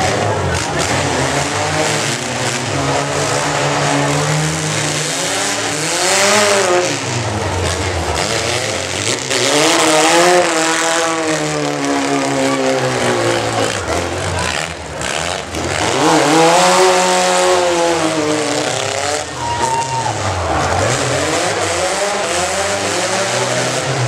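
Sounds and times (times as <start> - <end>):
pickup truck engine revving: 0.0 - 24.0.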